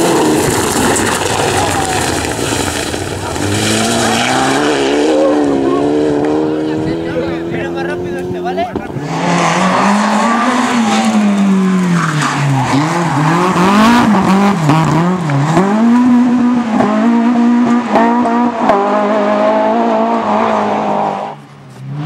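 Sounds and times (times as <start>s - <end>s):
tyre noise: 0.0s - 19.5s
rally car engine revving: 0.0s - 22.0s.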